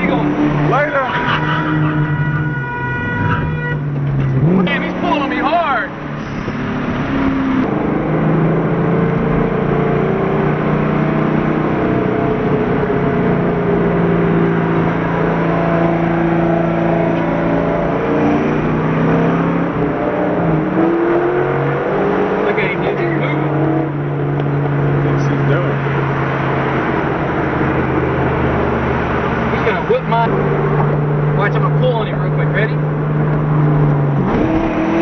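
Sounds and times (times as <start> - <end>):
car engine revving: 0.0 - 35.0
road noise: 0.0 - 35.0.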